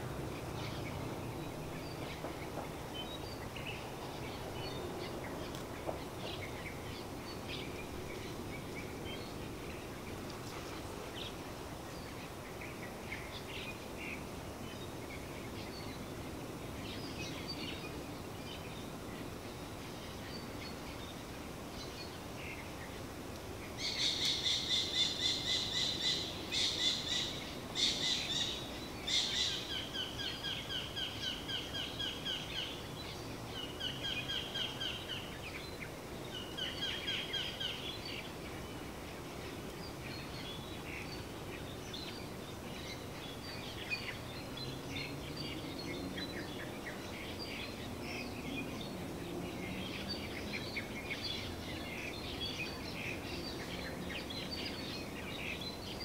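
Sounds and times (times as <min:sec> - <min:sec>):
steady background noise: 0:00.0 - 0:56.0.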